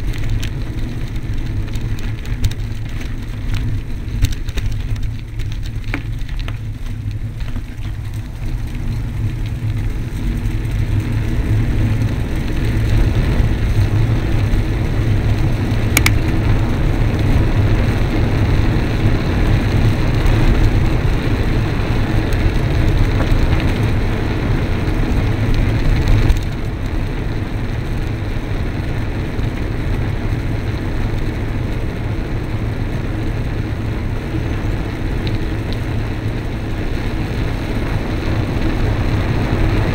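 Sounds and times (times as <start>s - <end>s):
tyres on gravel: 0.0s - 39.9s
wind rumble on microphone: 0.0s - 39.9s.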